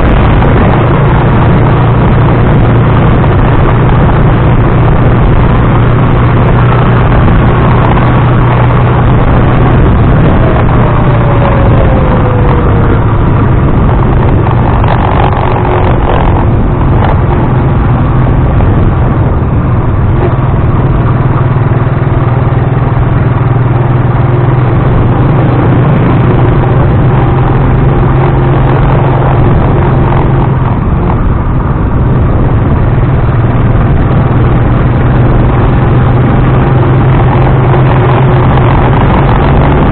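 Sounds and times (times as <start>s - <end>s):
motor tricycle engine hum: 0.0s - 39.9s
vibration and road noise rumble: 0.0s - 39.9s.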